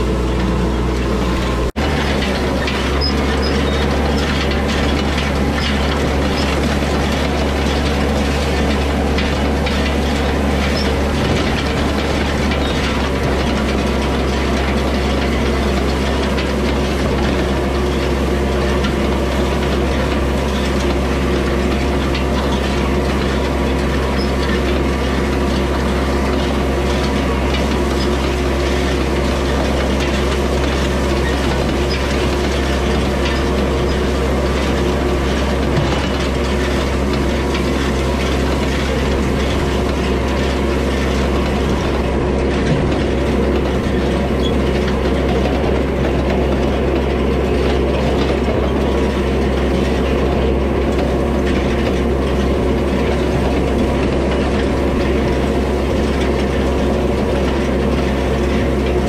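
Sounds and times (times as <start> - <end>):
hay rake rattling: 0.0 - 59.0
tractor engine running: 0.0 - 59.0.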